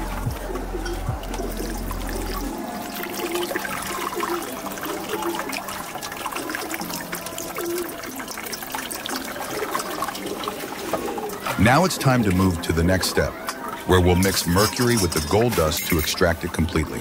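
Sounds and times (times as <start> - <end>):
water splashing into steel bowl: 0.8 - 12.6, 13.3 - 17.0.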